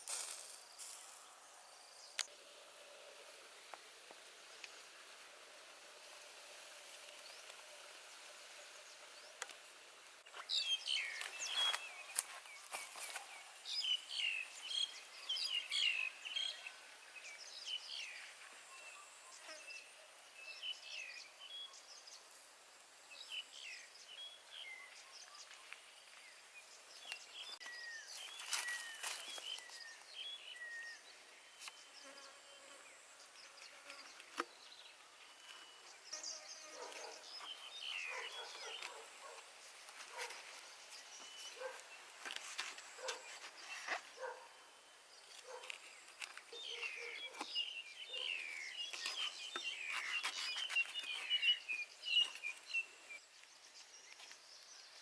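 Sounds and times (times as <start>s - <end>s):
small birds chirping: 6.8s - 55.0s.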